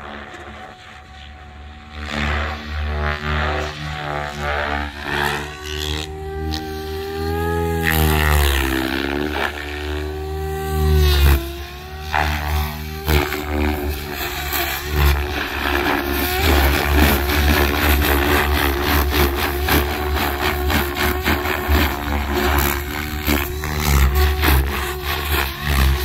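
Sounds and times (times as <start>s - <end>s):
electric motor whine: 0.0s - 26.0s
helicopter rotor blades whooshing: 0.0s - 26.0s.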